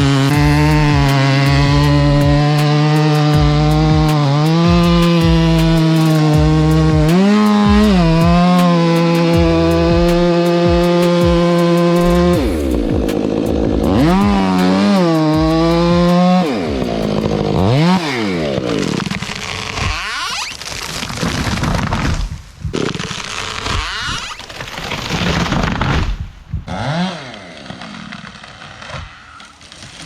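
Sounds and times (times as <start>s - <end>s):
chainsaw revving: 0.0s - 22.2s, 22.8s - 26.0s, 26.7s - 29.3s.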